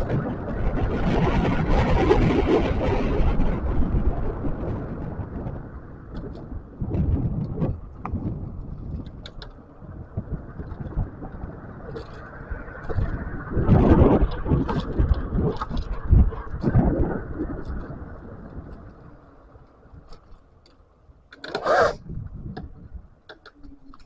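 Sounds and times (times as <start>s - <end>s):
low road rumble: 0.0s - 24.0s
wind buffeting microphone: 0.0s - 24.0s.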